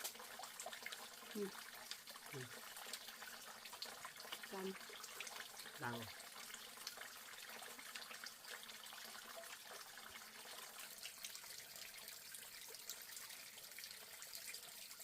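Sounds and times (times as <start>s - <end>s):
water trickling with drips: 0.0s - 15.0s.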